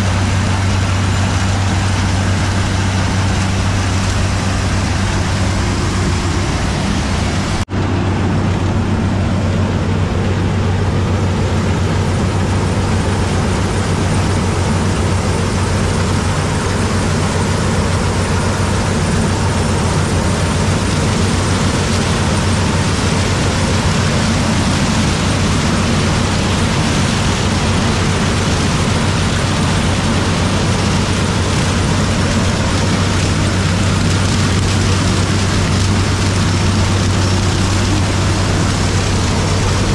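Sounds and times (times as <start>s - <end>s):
heavy farm machine engine: 0.0s - 39.9s.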